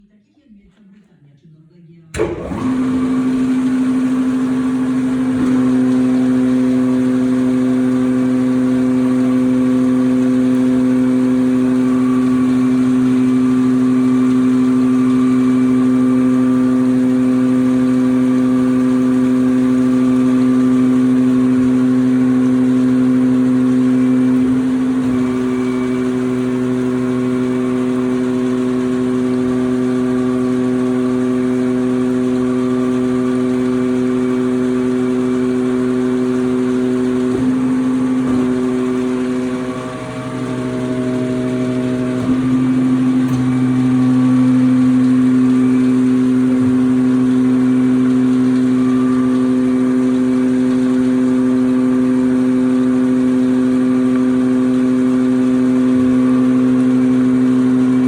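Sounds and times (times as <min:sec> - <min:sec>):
hydraulic motor humming: 0:02.1 - 0:58.0.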